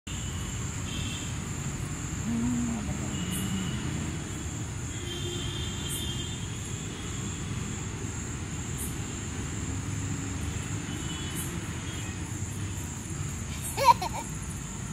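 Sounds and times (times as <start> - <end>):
insects trilling: 0.1 - 14.9.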